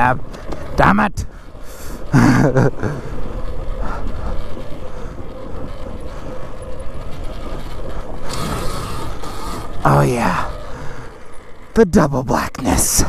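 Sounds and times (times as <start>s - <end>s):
faint electric motor whine: 0.0s - 13.0s
tyres rumbling over dirt: 0.0s - 13.0s.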